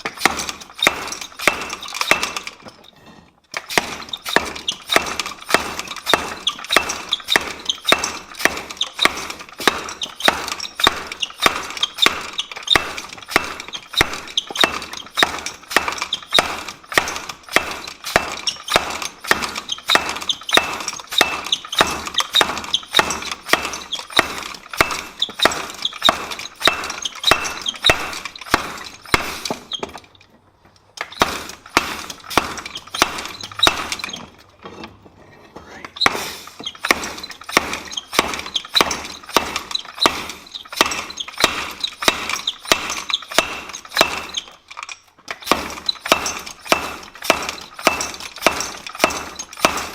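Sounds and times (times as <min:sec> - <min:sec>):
hammer striking steel: 0:00.0 - 0:02.7, 0:03.6 - 0:29.8, 0:31.0 - 0:34.3, 0:36.0 - 0:44.5, 0:45.3 - 0:49.9.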